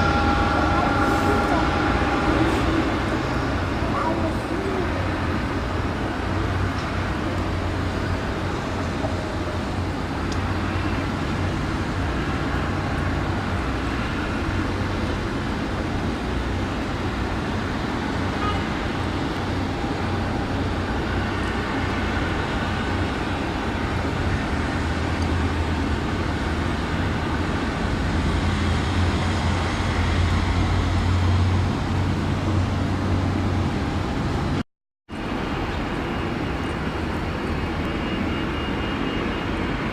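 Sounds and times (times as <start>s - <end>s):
engine rumble: 0.0s - 34.6s.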